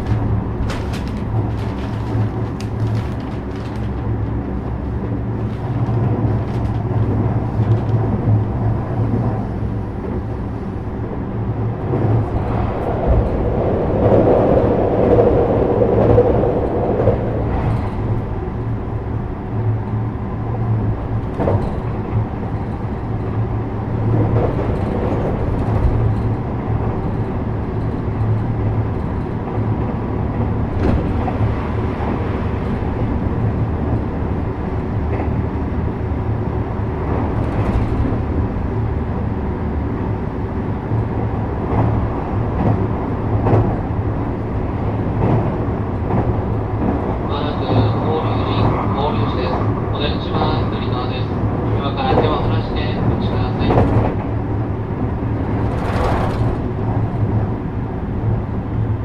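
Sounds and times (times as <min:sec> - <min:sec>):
train knocks: 0:00.0 - 0:59.0
train running low rumble: 0:00.0 - 0:59.0.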